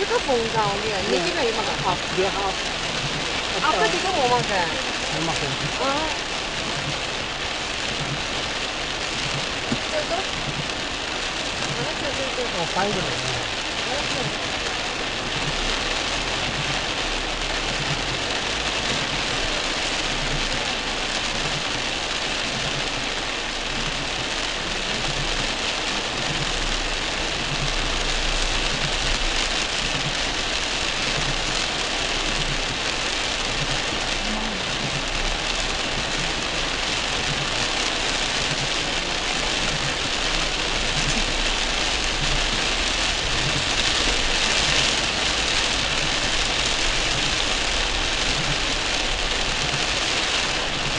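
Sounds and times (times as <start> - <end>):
car engine idling: 0.0 - 50.9
heavy rain drumming on car roof: 0.0 - 50.9.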